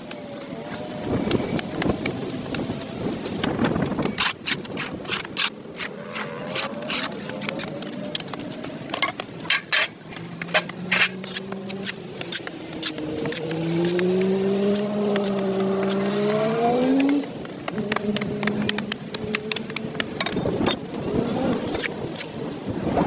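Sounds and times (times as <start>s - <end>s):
hand tool scraping pavement: 0.5s - 22.9s.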